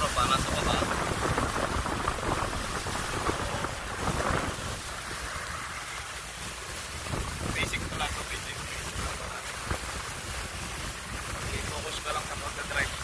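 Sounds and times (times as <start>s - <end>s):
boat engine rumble: 0.0s - 13.0s
rushing water: 0.0s - 13.0s
wind buffeting the microphone: 0.0s - 13.0s.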